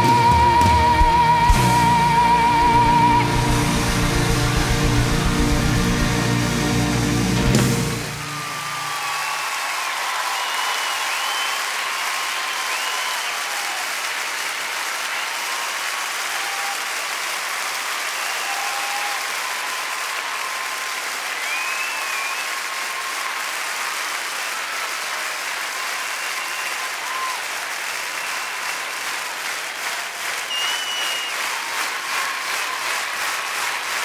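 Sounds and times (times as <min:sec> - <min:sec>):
audience applause: 0:00.0 - 0:34.0.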